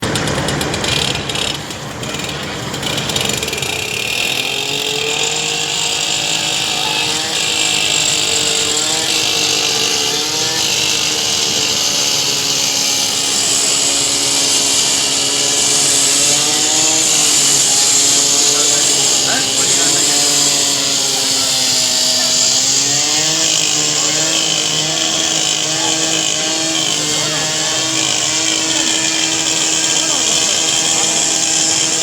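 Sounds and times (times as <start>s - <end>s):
power cutter cutting metal: 0.0s - 32.0s.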